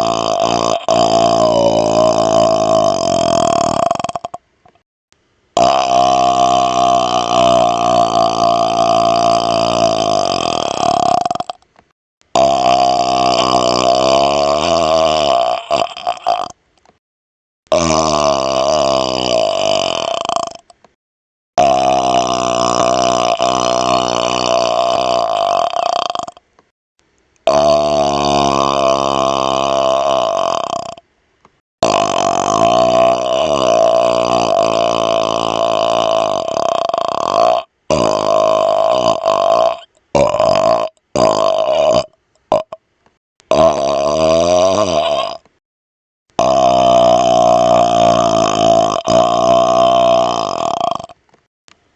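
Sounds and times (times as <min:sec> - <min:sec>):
man burping: 0:00.0 - 0:04.4, 0:05.6 - 0:11.6, 0:12.3 - 0:16.6, 0:17.7 - 0:20.8, 0:21.6 - 0:26.4, 0:27.4 - 0:31.0, 0:31.8 - 0:42.8, 0:43.5 - 0:45.6, 0:46.3 - 0:51.2.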